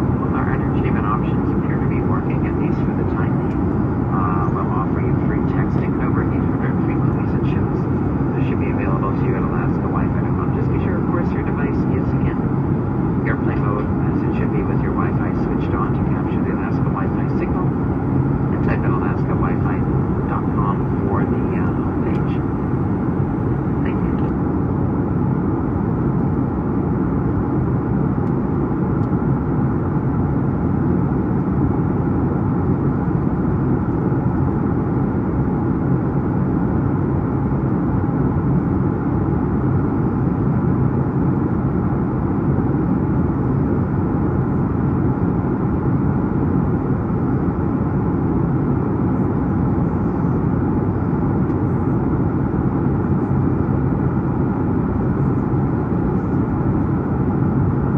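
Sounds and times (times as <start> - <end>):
airplane cabin engine rumble: 0.0 - 57.9.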